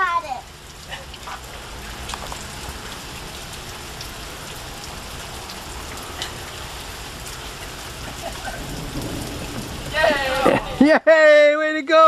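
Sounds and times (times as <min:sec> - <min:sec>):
raindrop ticks: 0:00.0 - 0:10.8
steady rain falling: 0:00.0 - 0:12.0.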